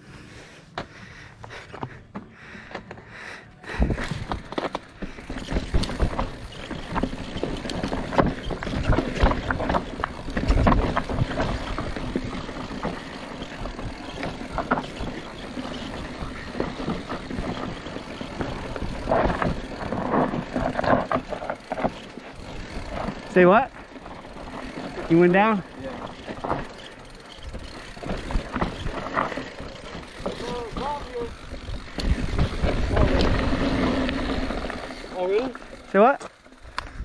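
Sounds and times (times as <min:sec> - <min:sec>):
bike knocking and rattling: 0:00.7 - 0:37.0
tyres on dirt and stones: 0:00.7 - 0:37.0.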